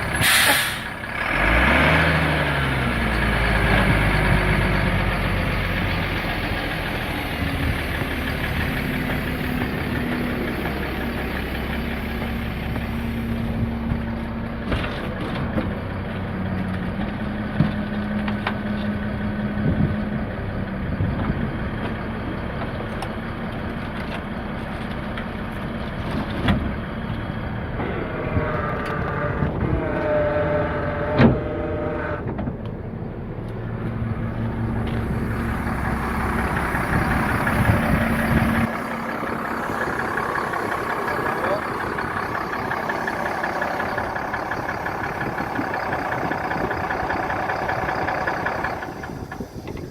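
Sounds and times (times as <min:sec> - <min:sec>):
garbage truck engine idling: 0:00.0 - 0:49.9.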